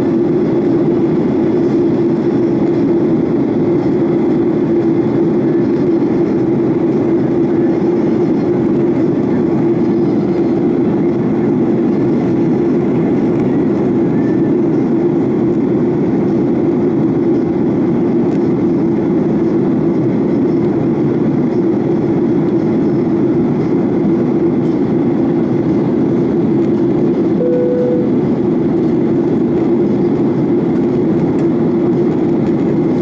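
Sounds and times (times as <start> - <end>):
airplane cabin engine drone: 0.0 - 33.0.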